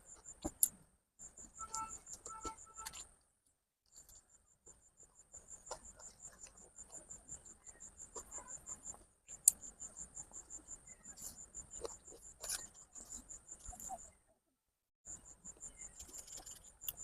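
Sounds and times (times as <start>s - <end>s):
cricket chirping: 0.0s - 3.2s, 3.9s - 14.2s, 15.1s - 17.0s.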